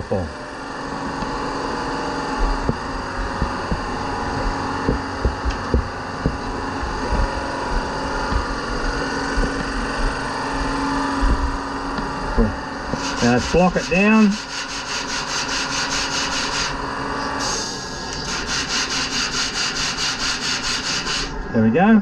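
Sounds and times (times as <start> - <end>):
workshop machine humming: 0.0 - 22.0.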